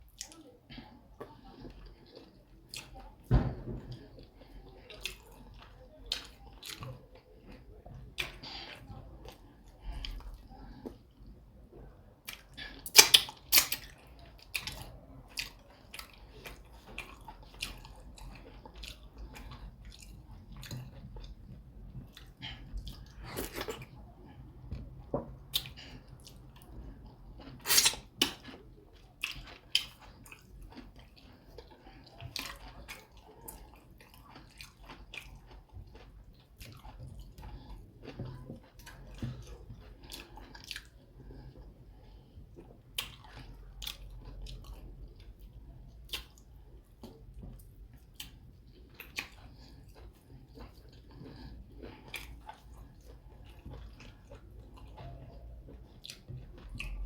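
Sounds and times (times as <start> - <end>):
person chewing with mouth smacks: 3.9 - 57.0.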